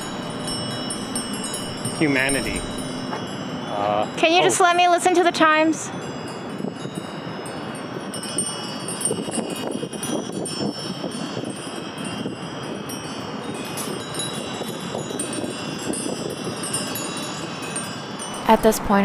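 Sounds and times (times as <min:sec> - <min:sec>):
metal wind bells chiming: 0:00.0 - 0:19.0.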